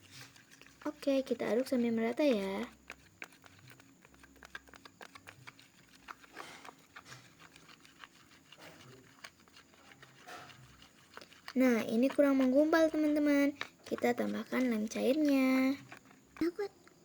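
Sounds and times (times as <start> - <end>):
slime being stirred squelching: 0.0 - 17.0.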